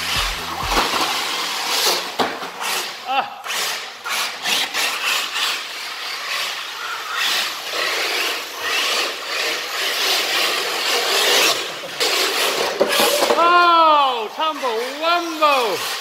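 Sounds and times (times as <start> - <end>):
toy car tyres sliding: 0.0 - 13.8, 14.4 - 16.0.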